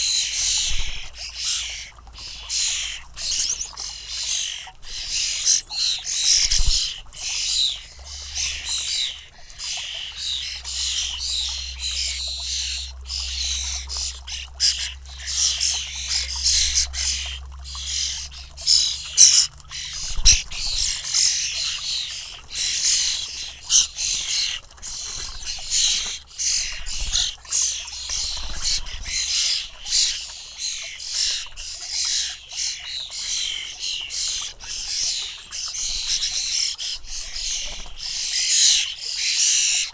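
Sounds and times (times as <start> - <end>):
starlings calling: 0.0 - 39.9.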